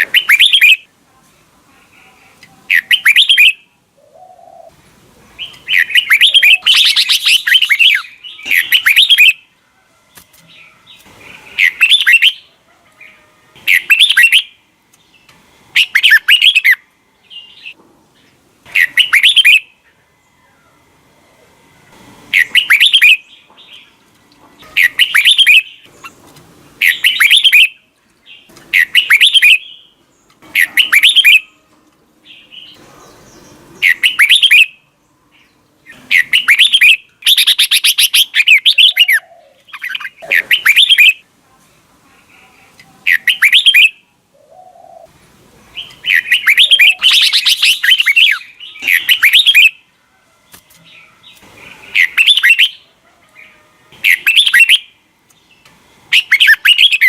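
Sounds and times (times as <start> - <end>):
bird singing warbled phrases: 0.0 - 1.0, 1.8 - 4.8, 5.4 - 9.6, 10.2 - 19.9, 22.3 - 24.0, 24.6 - 31.6, 32.2 - 41.3, 42.2 - 45.1, 45.7 - 49.9, 50.5 - 57.0.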